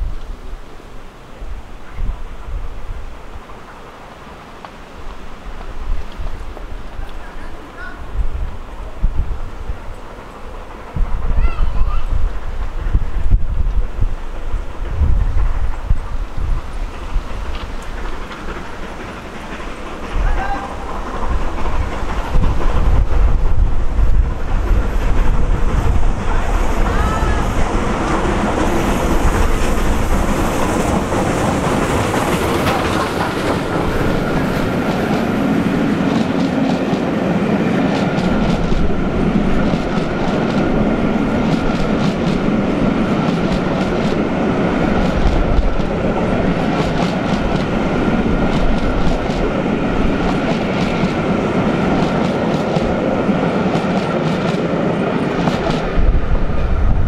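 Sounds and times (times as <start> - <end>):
steam locomotive running past: 0.0 - 57.0
train coaches clickety-clack: 1.8 - 57.0.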